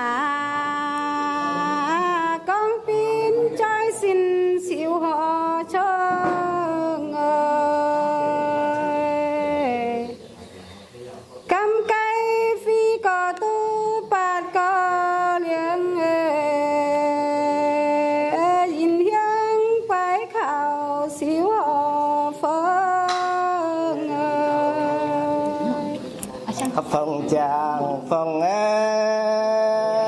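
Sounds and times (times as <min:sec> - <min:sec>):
woman singing folk song: 0:00.0 - 0:10.1, 0:11.5 - 0:26.7.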